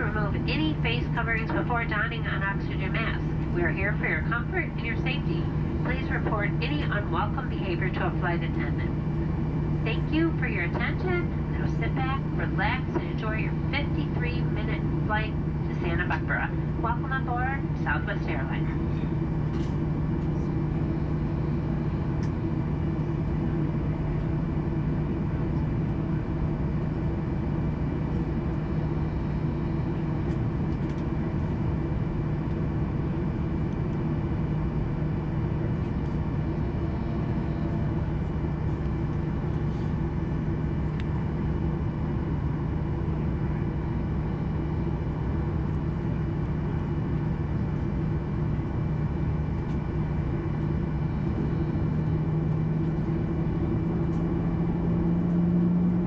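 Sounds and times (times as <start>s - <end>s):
airplane cabin drone: 0.0s - 56.0s.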